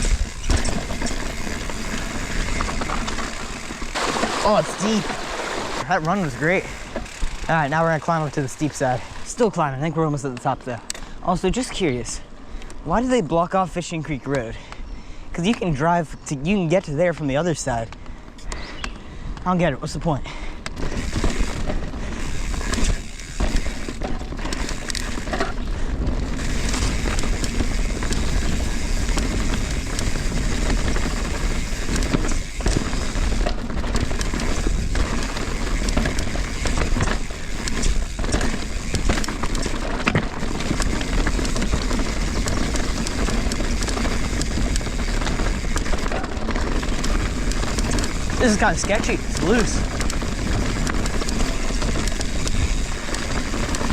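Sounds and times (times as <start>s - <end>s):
bike rattling and knocking: 0.0s - 9.5s, 19.8s - 53.9s
tyres rolling over rock and gravel: 0.0s - 10.6s, 20.7s - 53.9s.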